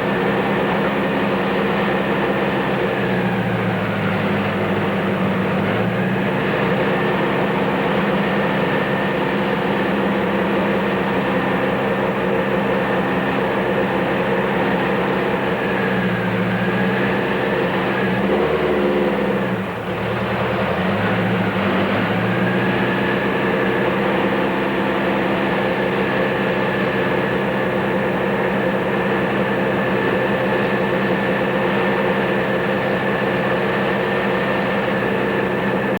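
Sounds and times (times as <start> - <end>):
race truck engine revving: 0.0 - 36.0.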